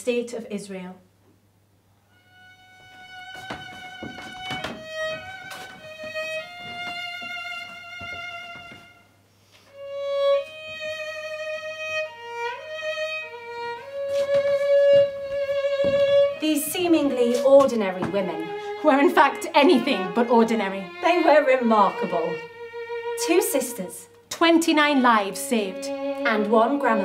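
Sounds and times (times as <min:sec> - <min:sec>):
solo violin slow melody: 0:02.1 - 0:27.0.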